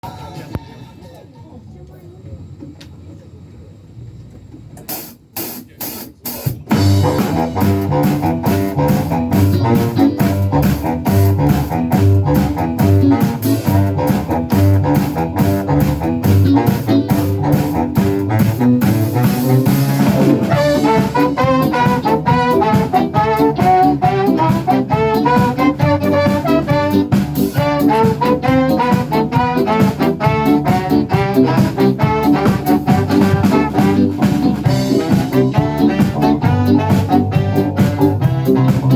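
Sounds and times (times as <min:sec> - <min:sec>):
drum hits: 0:04.9 - 0:38.9
live band playing: 0:04.9 - 0:38.9
lead melody line: 0:06.7 - 0:38.9.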